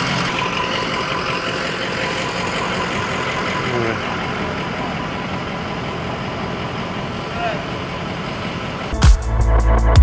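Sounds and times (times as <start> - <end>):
van engine idling: 0.0 - 10.0.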